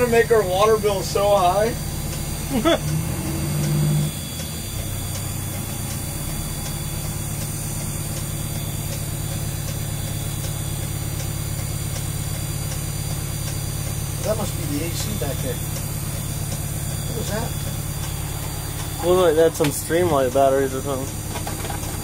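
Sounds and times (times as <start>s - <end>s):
diesel engine idling: 0.0s - 22.0s
loud hum: 0.0s - 22.0s.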